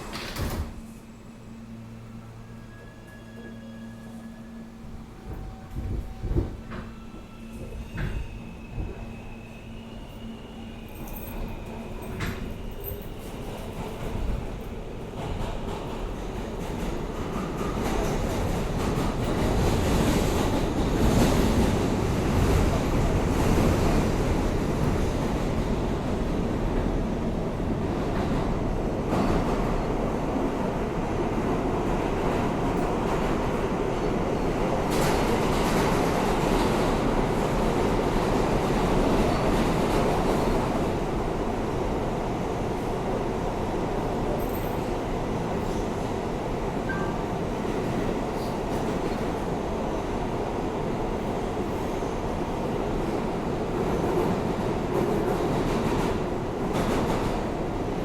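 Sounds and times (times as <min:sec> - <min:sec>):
subway train wheels rumbling on rail: 0:00.0 - 0:58.0.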